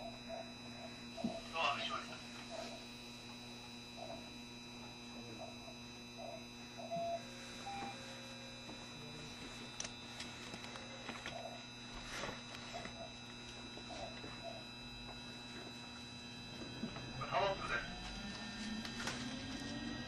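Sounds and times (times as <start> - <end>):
electric train hum: 0.0 - 20.0.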